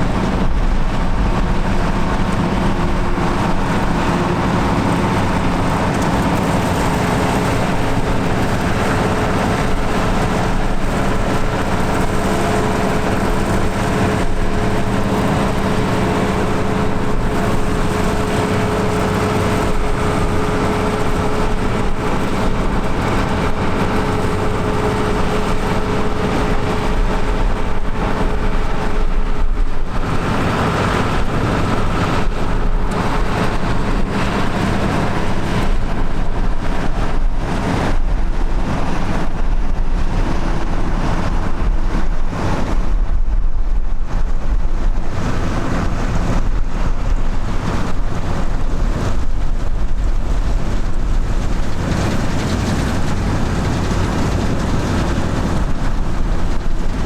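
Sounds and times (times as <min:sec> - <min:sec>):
engine whine: 0:00.0 - 0:57.0
tractor engine running: 0:00.0 - 0:57.0
wind buffeting microphone: 0:00.0 - 0:57.0.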